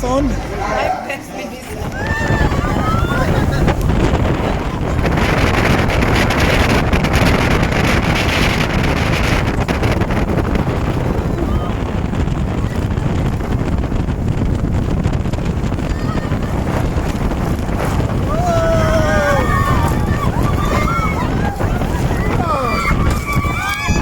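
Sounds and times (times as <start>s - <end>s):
speedboat motor and hull noise: 0.0s - 24.0s
wind buffeting microphone: 0.0s - 24.0s.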